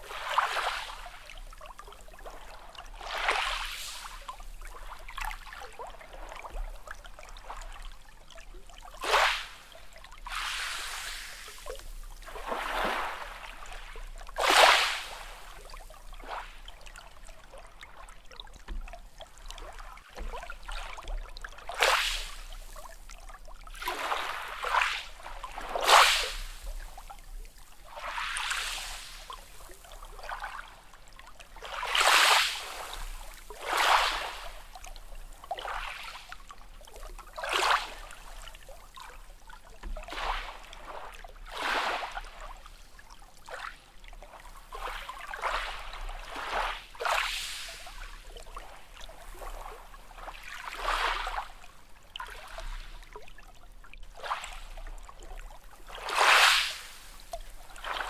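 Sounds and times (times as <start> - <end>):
small sea waves splashing: 0.0 - 58.0.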